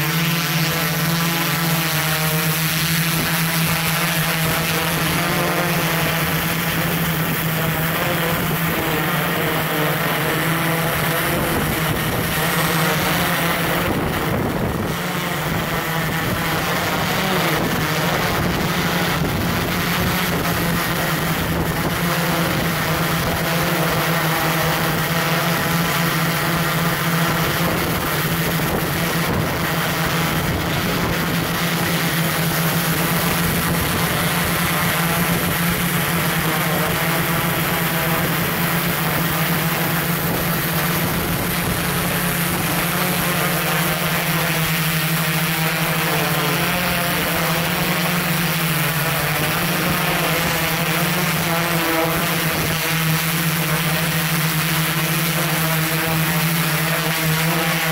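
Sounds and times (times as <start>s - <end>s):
drone propellers humming: 0.0s - 57.9s.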